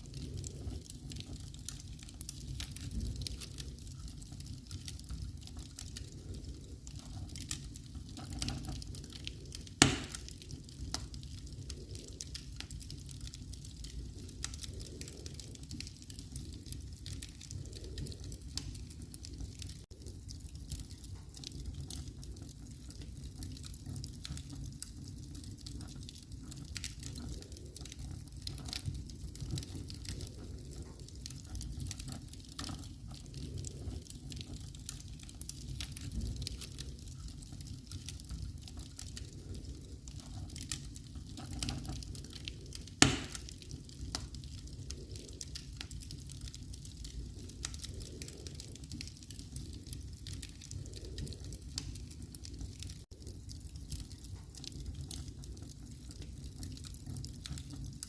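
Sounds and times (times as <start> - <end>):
fire pops and snaps: 0.0 - 58.0
low fire rumble: 0.0 - 58.0.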